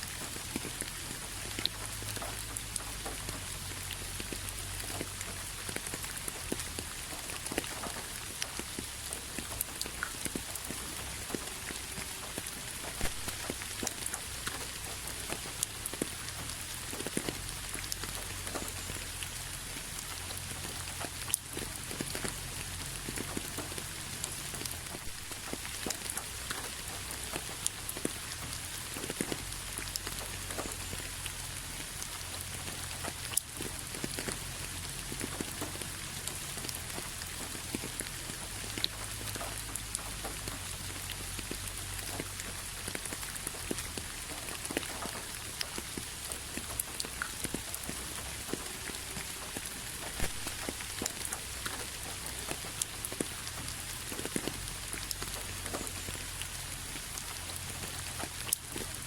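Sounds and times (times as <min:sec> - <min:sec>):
rain on a hard surface: 0:00.0 - 0:59.0
sharp drips and splats: 0:00.0 - 0:59.0.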